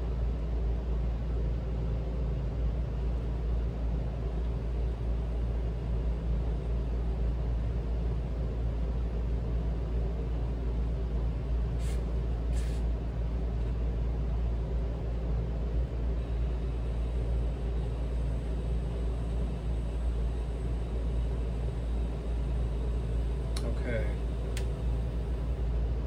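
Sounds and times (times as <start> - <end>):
low hum and rumble: 0.0 - 26.0.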